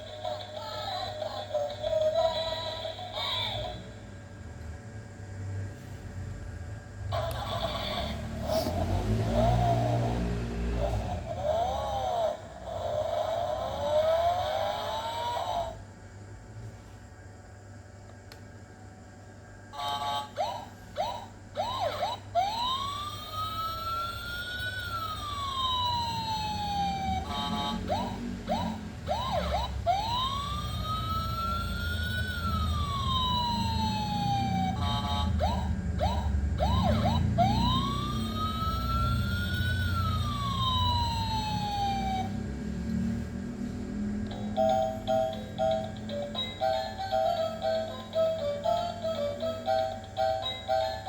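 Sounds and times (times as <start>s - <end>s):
electronic toy siren: 0.0s - 4.0s, 7.0s - 15.8s, 19.7s - 51.0s.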